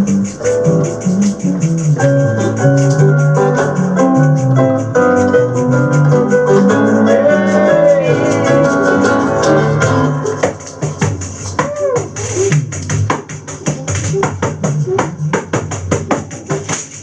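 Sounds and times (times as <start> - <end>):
bass: 0.0 - 17.0
guitar: 0.0 - 17.0
hand percussion: 0.0 - 17.0
piano: 0.0 - 17.0
shaker rhythm: 0.0 - 17.0.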